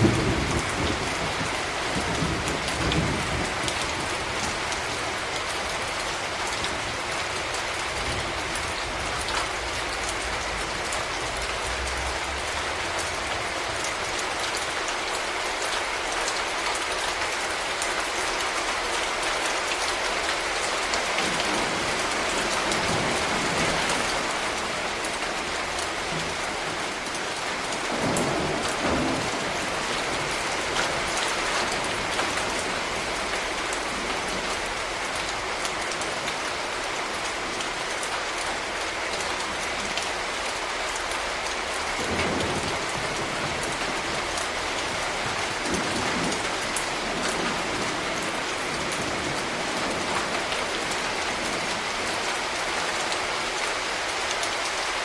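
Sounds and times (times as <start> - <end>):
rain falling on street: 0.0 - 55.0.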